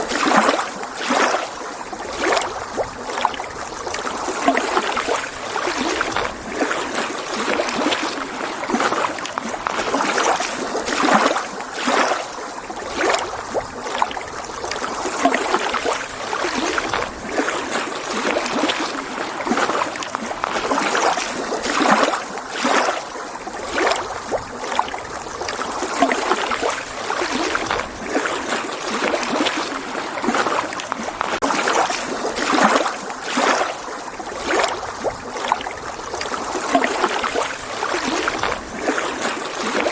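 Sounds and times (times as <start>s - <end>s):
waves lapping against shore: 0.0s - 39.9s.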